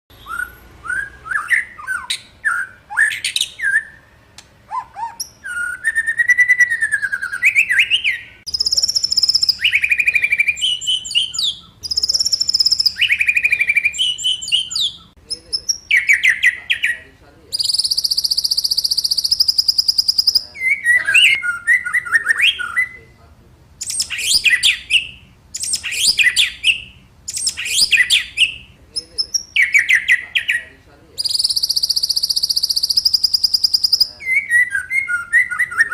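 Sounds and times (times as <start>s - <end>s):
songbird singing: 0.1s - 35.9s.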